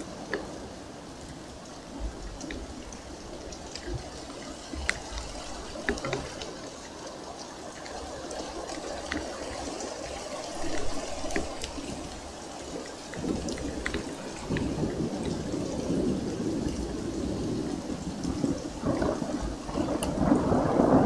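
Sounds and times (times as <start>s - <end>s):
rain falling: 0.0s - 21.0s
raindrops ticking: 0.0s - 21.0s.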